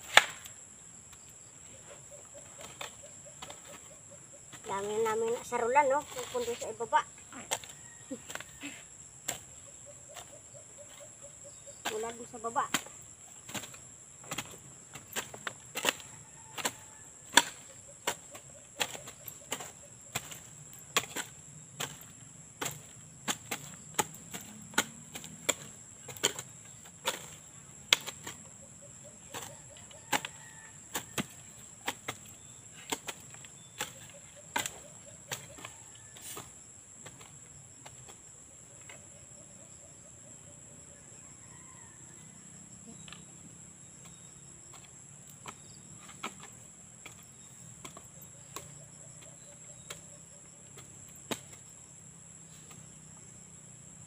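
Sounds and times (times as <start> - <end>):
hoes chopping into soil: 0.0 - 1.4, 2.0 - 39.2, 42.9 - 53.9
high insect drone: 0.0 - 54.0.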